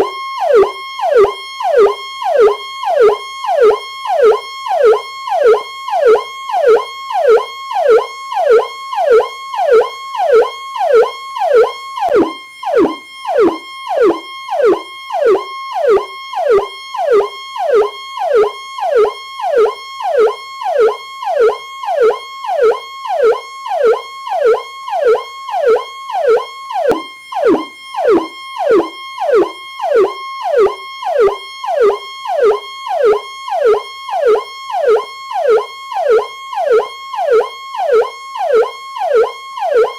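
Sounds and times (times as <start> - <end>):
police car siren: 0.0 - 39.9.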